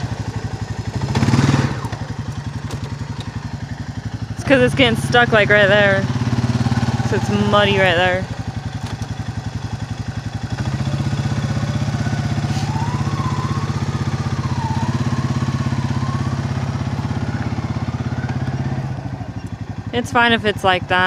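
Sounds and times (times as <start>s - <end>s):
quad bike engine under load: 0.0s - 21.0s.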